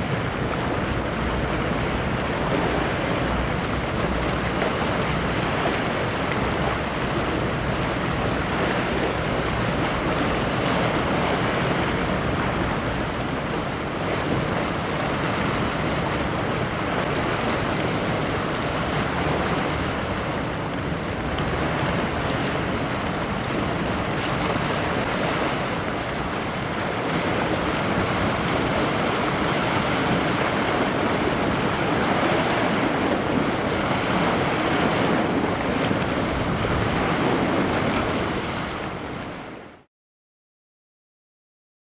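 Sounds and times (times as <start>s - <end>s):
waves washing: 0.0s - 39.9s
wind rushing over microphone: 0.0s - 39.9s.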